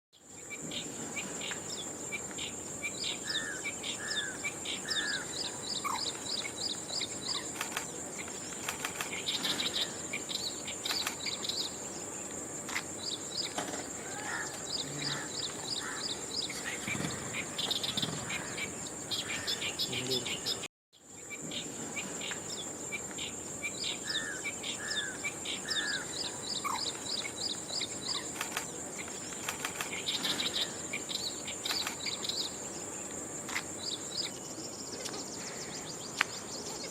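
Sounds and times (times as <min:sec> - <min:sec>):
crickets droning: 0:00.2 - 0:36.9
small birds chirping: 0:00.2 - 0:36.9.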